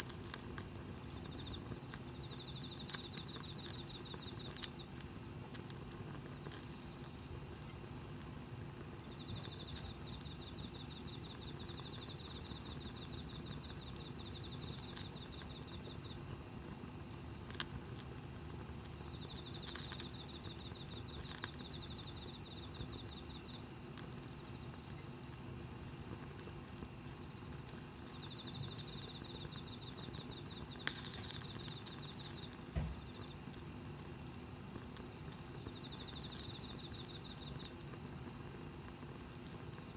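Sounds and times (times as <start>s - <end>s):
low pulsing insect trill: 0.0s - 5.6s, 6.2s - 39.9s
campfire crackles: 0.0s - 39.9s
high insect song: 0.0s - 39.9s
low steady hiss: 0.0s - 39.9s.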